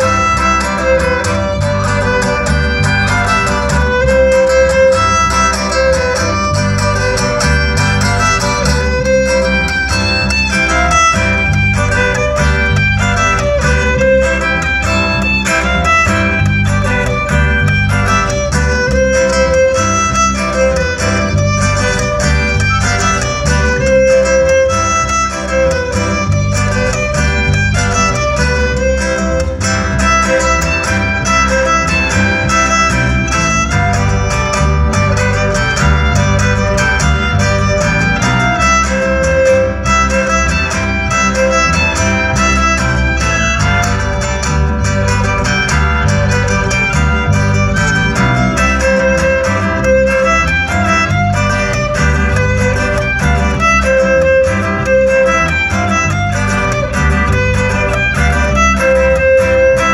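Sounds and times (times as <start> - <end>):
acoustic guitar: 0.0 - 59.9
plucked bass line: 0.0 - 59.9
violin melody: 0.0 - 59.9.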